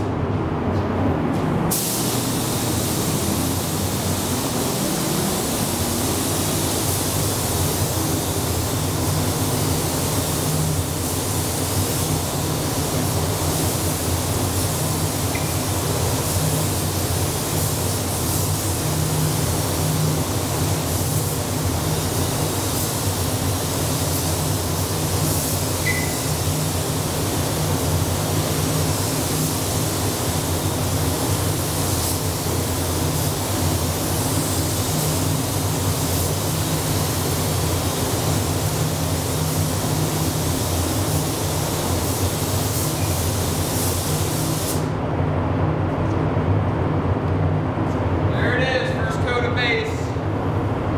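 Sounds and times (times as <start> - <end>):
ventilation fans humming: 0.0 - 50.9
paint spray gun hissing: 1.7 - 44.9.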